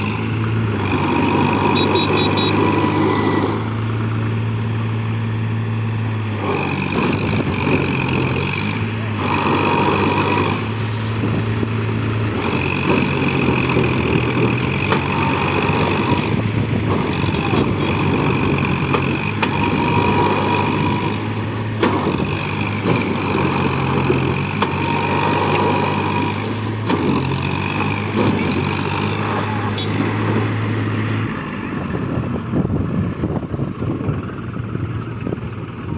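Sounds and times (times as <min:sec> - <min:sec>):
tractor engines running under load: 0:00.0 - 0:35.9.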